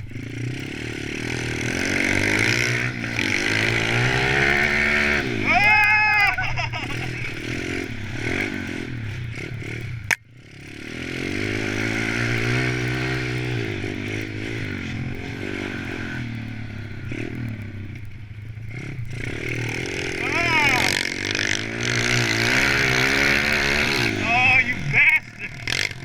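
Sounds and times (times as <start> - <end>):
motorbike engines revving: 0.0 - 26.0.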